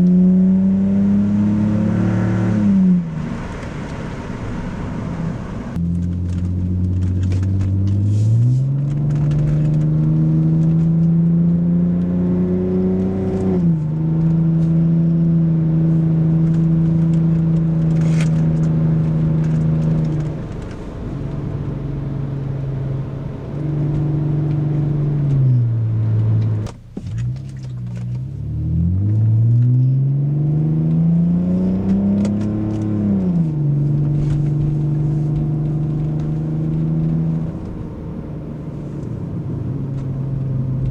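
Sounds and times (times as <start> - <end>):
car engine and exhaust accelerating: 0.0 - 40.9.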